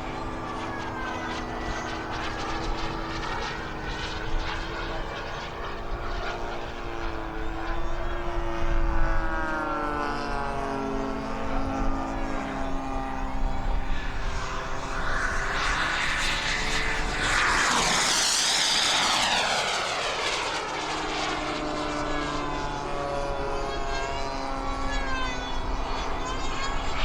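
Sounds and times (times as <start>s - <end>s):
model airplane propeller buzzing: 0.0s - 27.0s.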